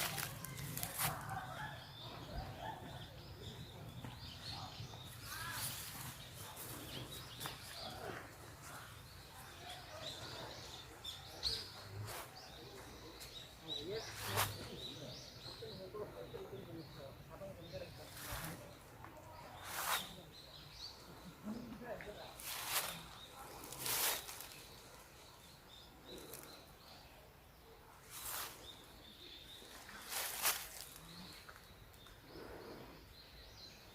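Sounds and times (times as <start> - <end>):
songbirds chirping: 0.0 - 33.9.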